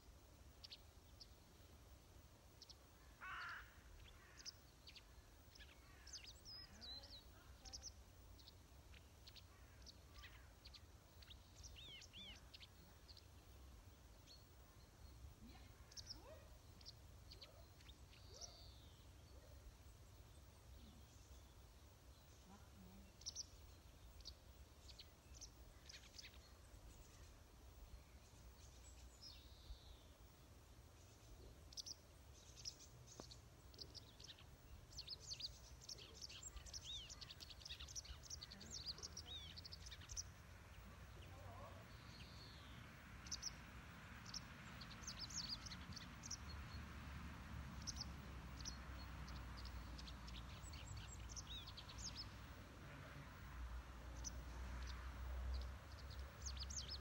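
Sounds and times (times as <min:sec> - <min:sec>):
soft hiss: 0:00.0 - 0:57.0
songbirds chirping and trilling: 0:00.0 - 0:57.0.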